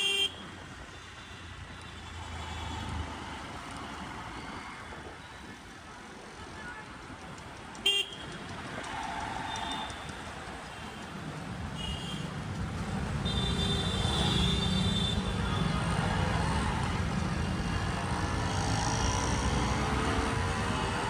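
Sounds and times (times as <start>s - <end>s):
road traffic with engines running: 0.0s - 21.0s.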